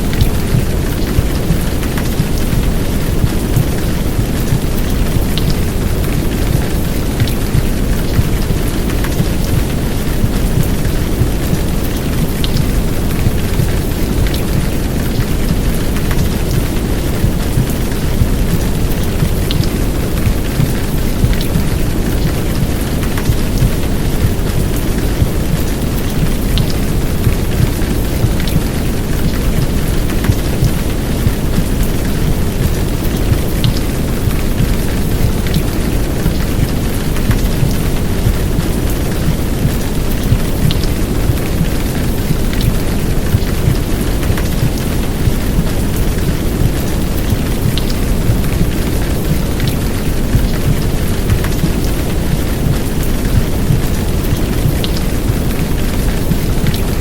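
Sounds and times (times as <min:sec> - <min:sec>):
heartbeat: 0:00.0 - 0:57.0
heavy rain: 0:00.0 - 0:57.0
white noise: 0:00.0 - 0:57.0.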